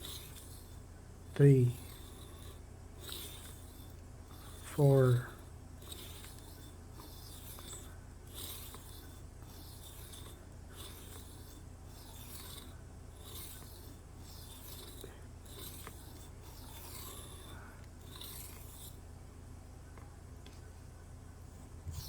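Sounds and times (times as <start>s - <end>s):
blade scraping on whetstone: 0.0s - 19.0s
steady low hum: 0.0s - 22.0s.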